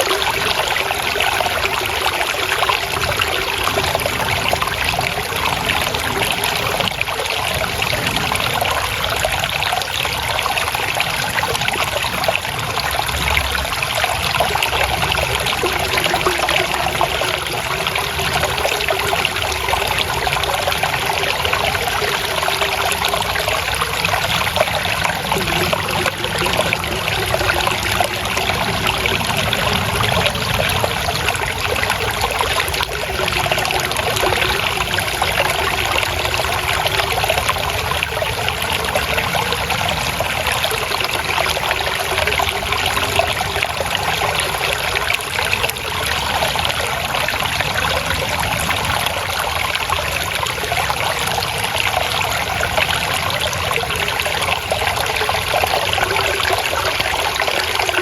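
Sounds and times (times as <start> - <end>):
small stream babbling: 0.0 - 58.0.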